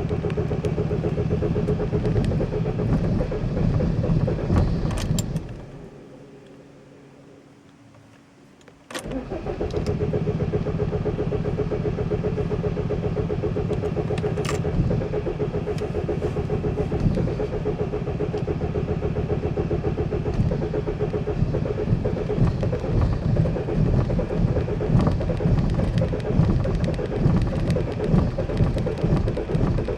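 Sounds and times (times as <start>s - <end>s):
starter click: 0.0s - 5.8s, 7.6s - 11.0s, 11.8s - 29.9s
engine rapid mechanical pulsing: 0.0s - 29.9s.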